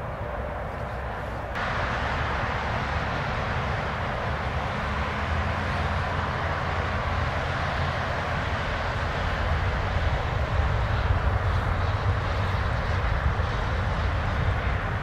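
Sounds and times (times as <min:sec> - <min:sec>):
jet engine rumble with hiss: 0:00.0 - 0:15.0.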